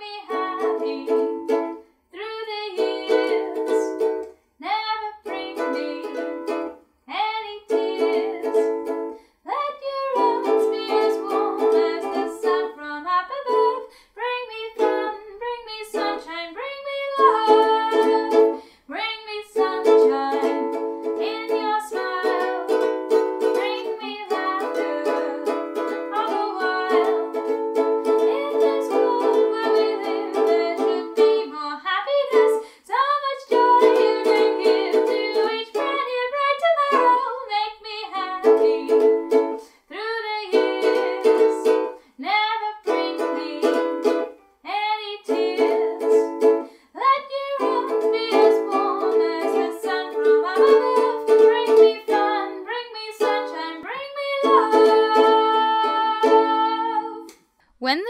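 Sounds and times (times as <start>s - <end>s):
ukulele strumming: 0.0s - 57.4s
woman singing: 0.0s - 58.0s.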